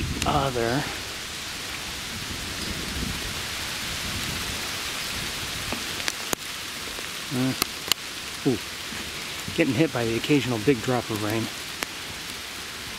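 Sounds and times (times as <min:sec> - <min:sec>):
rain on leaves: 0:00.0 - 0:12.9
raindrops tapping: 0:00.0 - 0:12.9.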